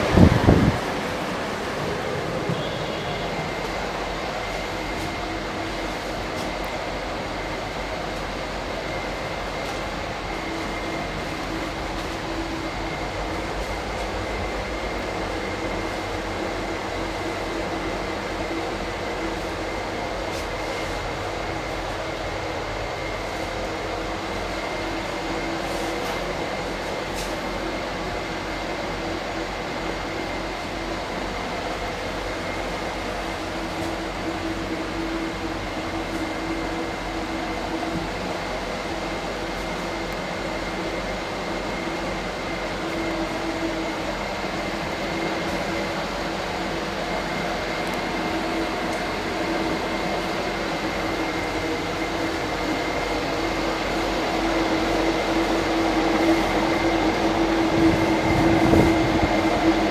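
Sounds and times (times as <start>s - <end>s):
air conditioning hum: 0.0s - 59.9s
thin steady whine: 0.0s - 59.9s.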